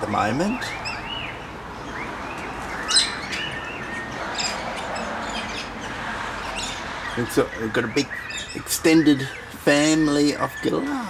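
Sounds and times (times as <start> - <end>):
galahs calling: 0.0 - 11.0.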